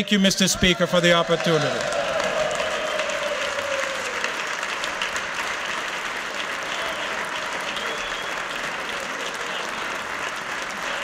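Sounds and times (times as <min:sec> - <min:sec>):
crowd applauding: 0:00.5 - 0:11.0.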